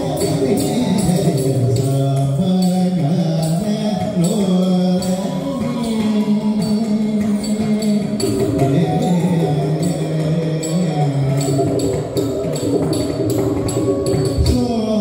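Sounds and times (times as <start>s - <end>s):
man singing long gliding notes: 0.0s - 12.4s
instrumental accompaniment: 0.0s - 15.0s
light percussion beat: 0.0s - 15.0s.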